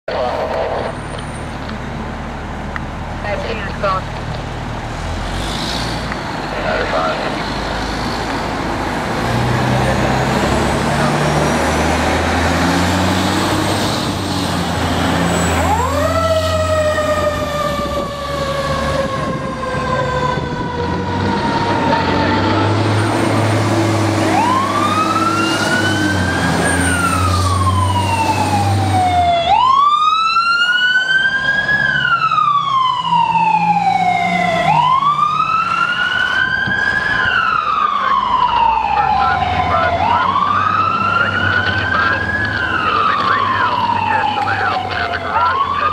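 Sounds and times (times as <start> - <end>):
emergency sirens wailing: 0.1 - 5.3, 6.1 - 45.9
fire truck engines droning: 0.1 - 45.9.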